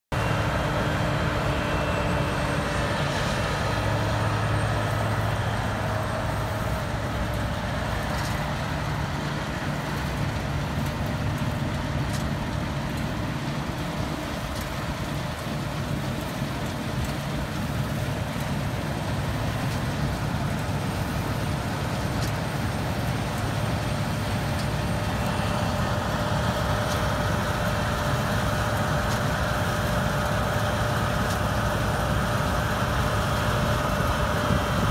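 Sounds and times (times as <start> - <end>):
combine harvester engine and threshing hum: 0.1 - 34.9.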